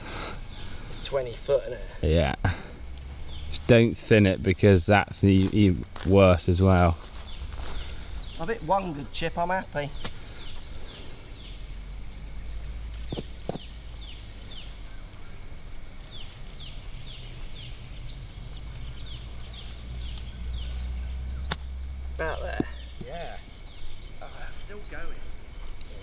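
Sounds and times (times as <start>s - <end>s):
low steady rumble: 0.0s - 24.2s.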